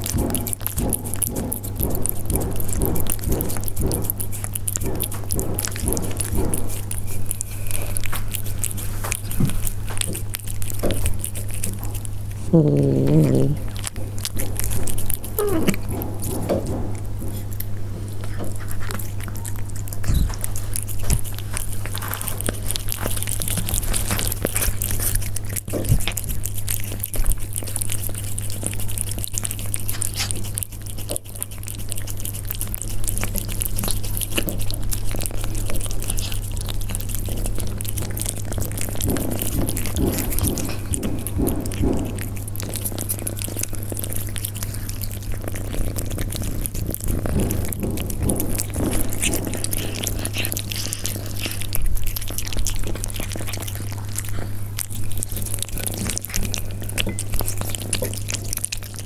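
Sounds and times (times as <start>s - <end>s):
cats crunching food: 0.0s - 59.0s
steady low hum: 0.0s - 59.0s.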